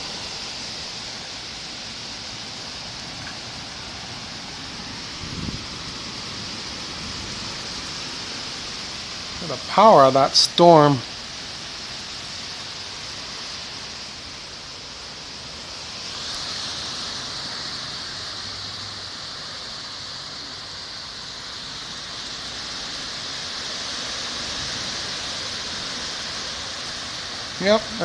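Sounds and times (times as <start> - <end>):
rain: 0.0 - 28.0
wind: 0.0 - 28.0.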